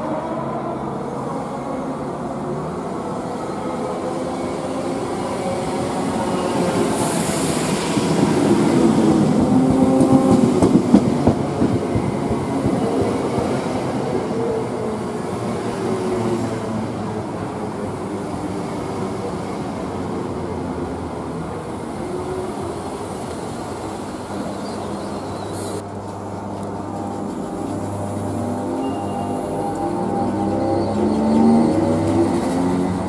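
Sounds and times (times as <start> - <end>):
electric train running past: 0.0 - 33.0.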